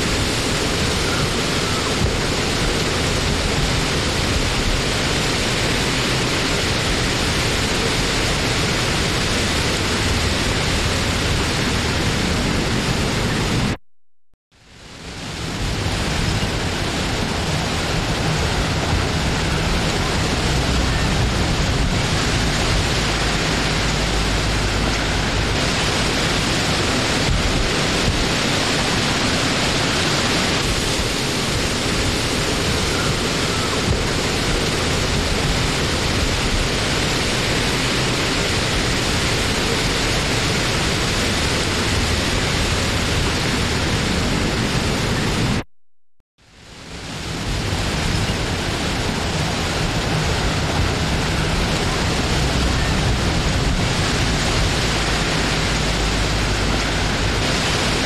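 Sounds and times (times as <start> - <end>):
wind blowing steadily: 0.0 - 13.8, 14.6 - 45.6, 46.4 - 58.0.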